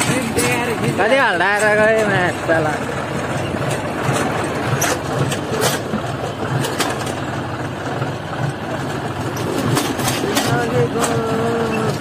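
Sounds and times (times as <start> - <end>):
sharp rattling clicks: 0.0 - 7.3, 8.3 - 12.0
tractor diesel engine throbbing: 0.0 - 12.0.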